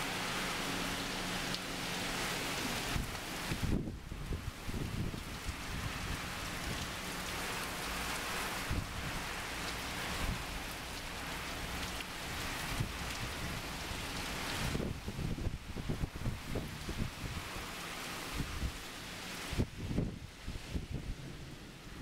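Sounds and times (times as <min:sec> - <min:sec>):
heavy rain on pavement: 0:00.0 - 0:22.0.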